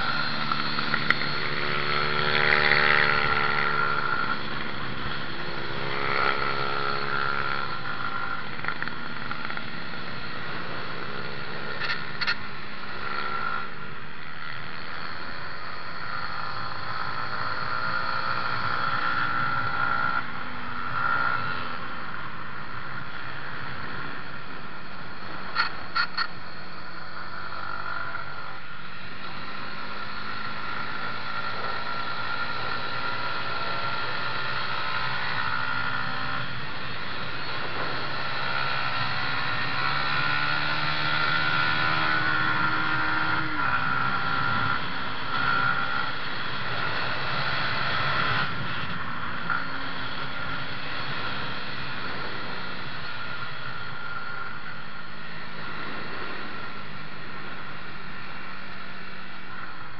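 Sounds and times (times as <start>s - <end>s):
motorcycle engine running hard: 0.0s - 59.9s.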